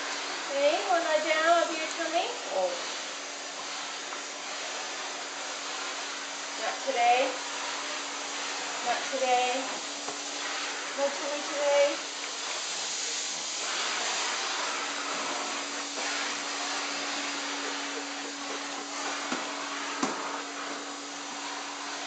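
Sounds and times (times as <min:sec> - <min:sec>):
vacuum cleaner suction: 0:00.0 - 0:22.0
vacuum motor hum: 0:00.1 - 0:22.0.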